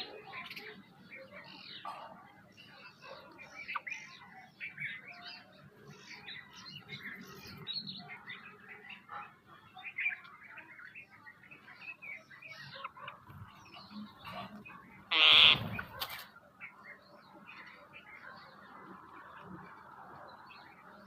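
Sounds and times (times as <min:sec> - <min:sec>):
birds chirping and chattering: 0:00.0 - 0:21.0.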